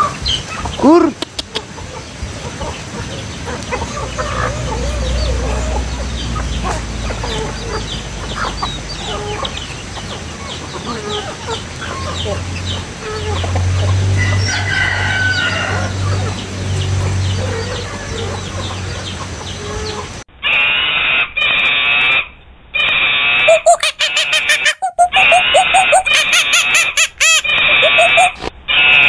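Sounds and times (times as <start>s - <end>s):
chickens clucking: 0.0s - 22.2s, 22.8s - 29.0s
high-pitched calls in bursts: 3.3s - 29.0s.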